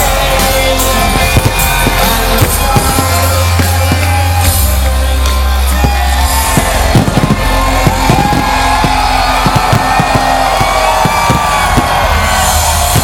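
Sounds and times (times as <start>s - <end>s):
drum hits: 0.0s - 4.8s, 5.7s - 13.0s
deep bass notes: 0.0s - 13.0s
live band playing loud: 0.0s - 13.0s.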